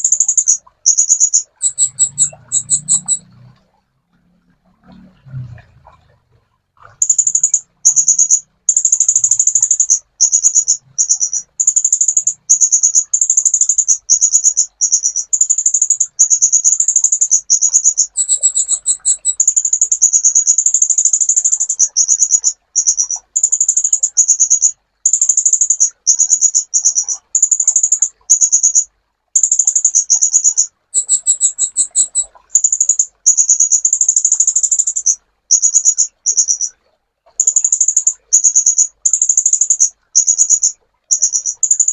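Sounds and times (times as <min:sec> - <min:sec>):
bird high fast trill: 0:00.0 - 0:03.4, 0:07.0 - 0:36.8, 0:37.4 - 0:41.9.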